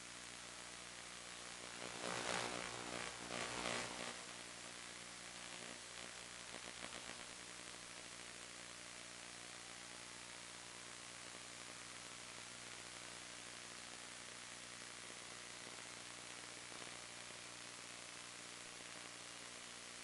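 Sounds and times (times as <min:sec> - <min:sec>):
faint electrical hum: 0:00.0 - 0:20.0
static hiss: 0:00.0 - 0:20.0.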